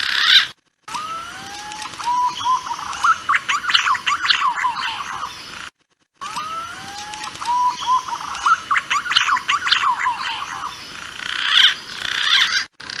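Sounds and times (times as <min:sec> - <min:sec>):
pigeon calls: 0:00.0 - 0:05.4, 0:06.3 - 0:13.0.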